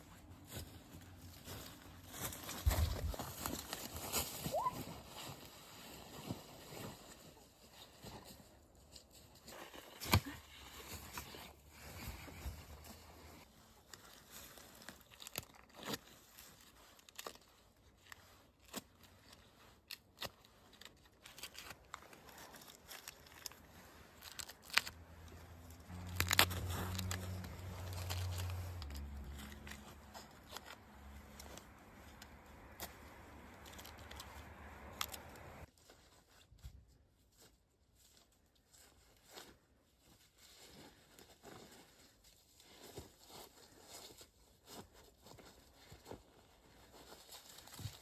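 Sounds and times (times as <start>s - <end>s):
tearing and crinkling: 0.0s - 48.0s.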